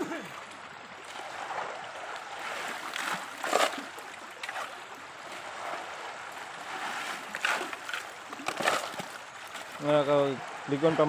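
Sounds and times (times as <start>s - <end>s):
shallow river rushing: 0.0s - 11.0s
water splashes: 0.0s - 11.0s.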